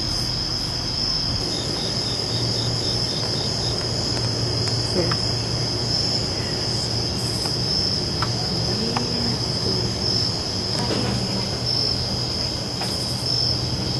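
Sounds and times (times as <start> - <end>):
crickets trilling: 0.0 - 13.9
insect chirping in pulses: 0.0 - 13.9
low steady hum: 0.0 - 13.9.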